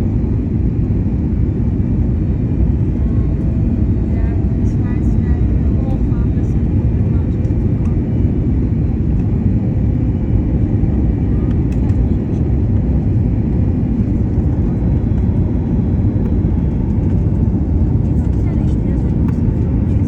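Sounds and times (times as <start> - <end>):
airliner landing rumble: 0.0 - 20.0
faint engine tones: 0.0 - 20.0.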